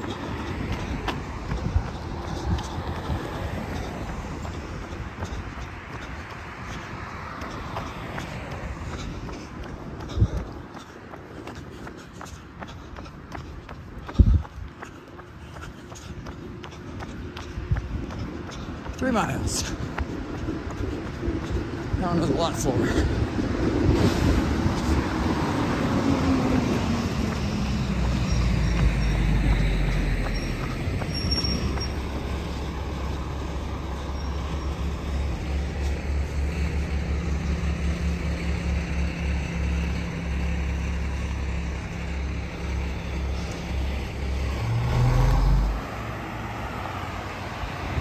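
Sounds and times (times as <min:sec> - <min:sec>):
vehicle passing by: 0:00.0 - 0:11.8, 0:16.8 - 0:48.0
road traffic passing: 0:00.0 - 0:48.0.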